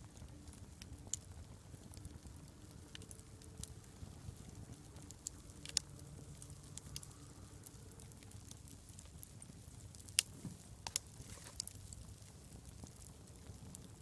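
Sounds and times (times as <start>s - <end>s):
campfire crackling: 0.0s - 14.0s
low steady rumble: 0.0s - 14.0s.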